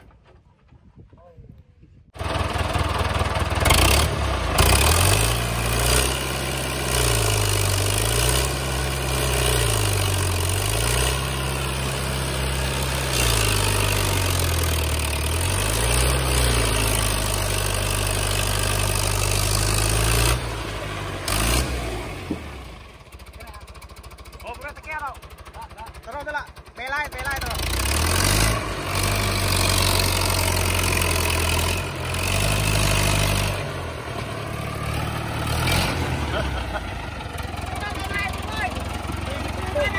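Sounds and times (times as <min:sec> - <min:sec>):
tractor diesel engine working hard: 0:02.1 - 0:39.9.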